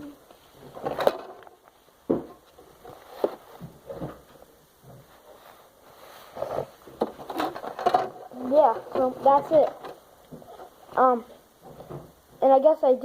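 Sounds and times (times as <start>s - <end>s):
handling rustles: 0.3s - 12.2s.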